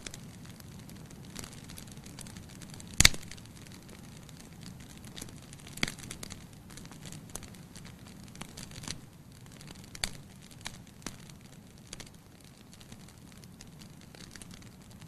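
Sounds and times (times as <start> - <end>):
fire crackling and popping: 0.0 - 15.0
rush of flames: 0.0 - 15.0.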